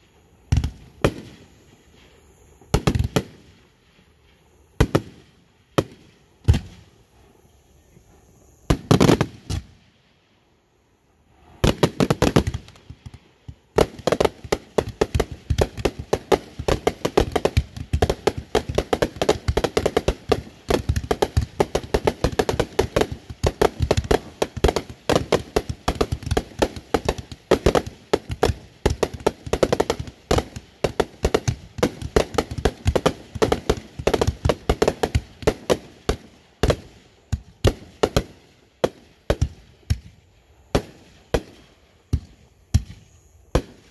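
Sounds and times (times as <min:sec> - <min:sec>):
fireworks bangs and pops: 0:00.4 - 0:04.1, 0:04.8 - 0:06.9, 0:08.7 - 0:09.8, 0:11.5 - 0:43.9.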